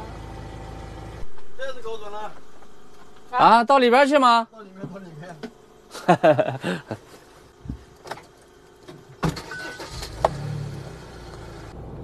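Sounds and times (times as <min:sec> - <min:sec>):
van engine running: 0:00.0 - 0:12.0.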